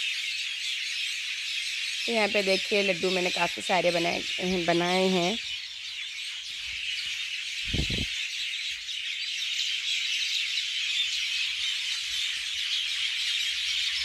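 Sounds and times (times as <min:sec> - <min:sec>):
many birds chirping: 0:00.0 - 0:14.0.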